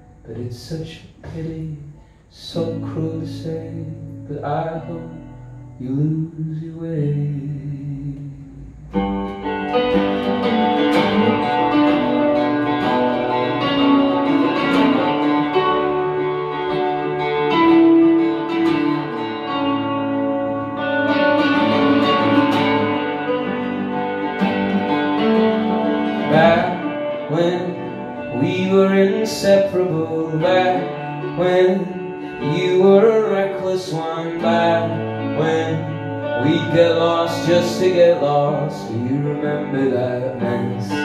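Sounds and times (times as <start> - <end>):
electric guitar chords and notes: 0.0 - 41.0.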